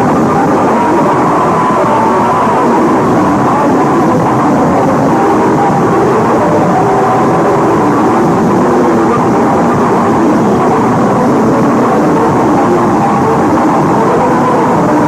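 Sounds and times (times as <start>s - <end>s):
loud steady roaring noise: 0.0s - 15.0s.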